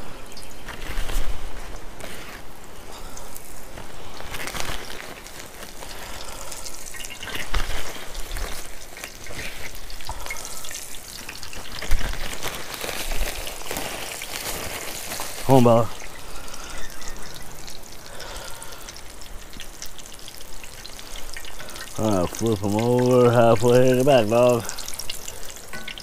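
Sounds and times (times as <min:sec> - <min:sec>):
frying crackling sizzle: 0:00.0 - 0:26.0.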